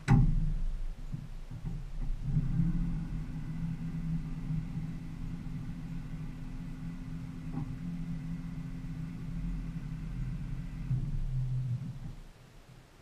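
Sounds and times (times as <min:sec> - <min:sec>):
boat motor humming: 0:01.1 - 0:12.4.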